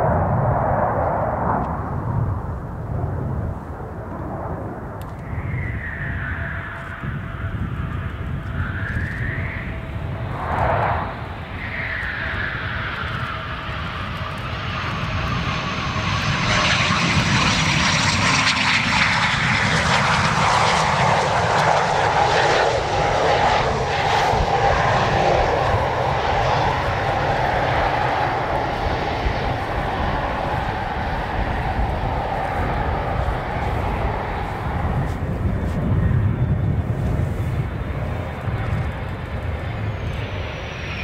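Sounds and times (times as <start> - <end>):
aircraft flying past: 0.0 - 41.0.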